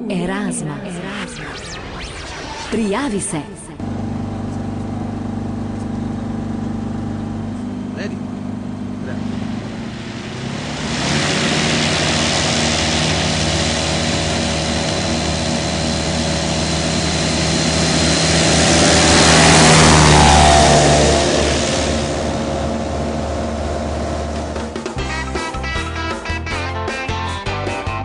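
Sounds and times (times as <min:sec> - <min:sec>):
propeller aircraft engine drone: 0:00.0 - 0:25.2.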